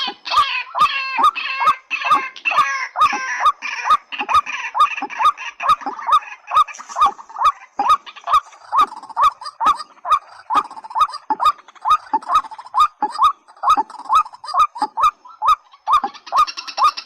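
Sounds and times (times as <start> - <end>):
rail bird calling: 0.0 - 17.0.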